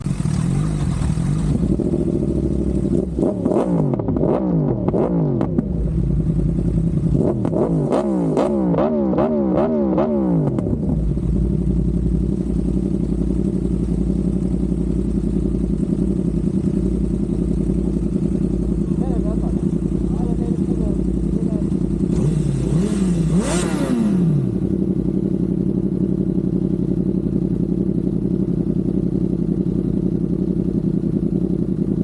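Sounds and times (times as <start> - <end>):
motorcycle engine revving and idling: 0.0 - 32.0.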